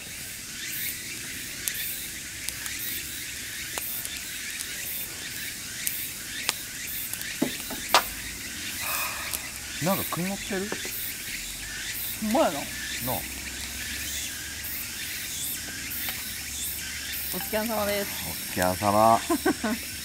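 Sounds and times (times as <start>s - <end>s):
campfire crackling and popping: 0.0s - 20.0s
insects chirping: 0.0s - 20.0s.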